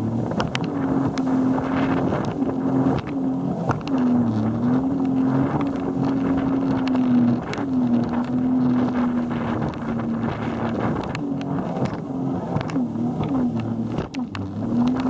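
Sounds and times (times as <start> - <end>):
motorboat engine running: 0.0 - 15.0
wind noise on microphone: 0.0 - 15.0.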